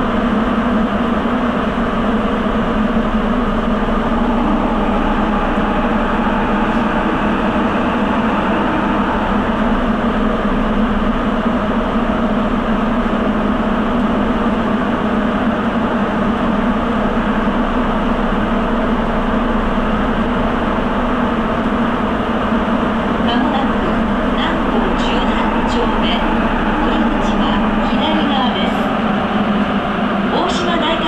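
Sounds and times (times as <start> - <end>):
subway train running in tunnel: 0.0 - 31.0.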